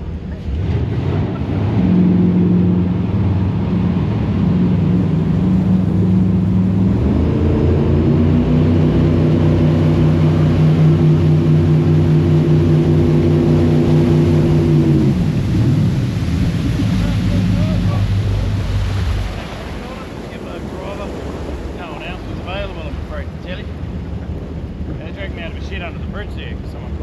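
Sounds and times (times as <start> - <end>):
jet boat engine running: 0.0 - 27.0.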